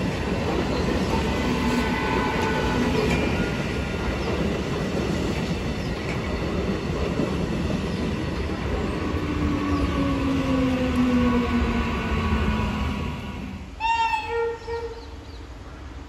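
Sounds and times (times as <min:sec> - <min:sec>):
train wheels rumbling on rails: 0:00.0 - 0:13.8.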